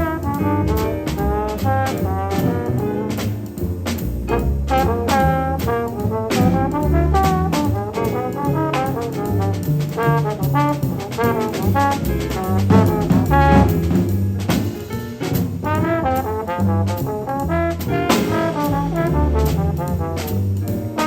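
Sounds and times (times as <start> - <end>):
trombone line: 0.0 - 2.9, 4.3 - 14.1, 15.6 - 21.0
drums with ride cymbal: 0.0 - 21.0
walking bass: 0.0 - 21.0.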